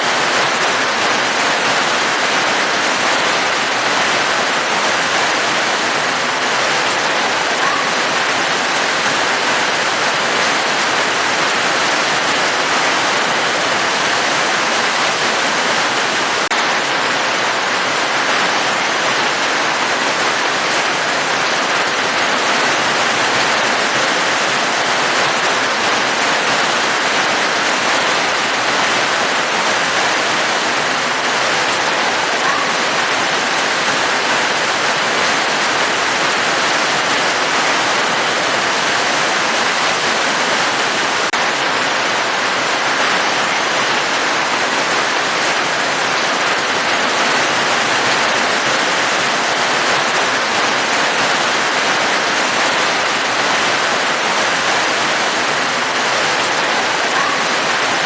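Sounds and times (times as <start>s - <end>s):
dense rain falling: 0.0s - 58.0s.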